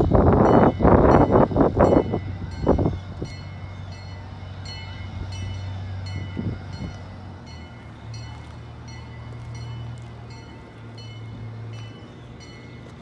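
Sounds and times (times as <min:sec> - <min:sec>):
miniature train engine hum: 0:00.0 - 0:13.0.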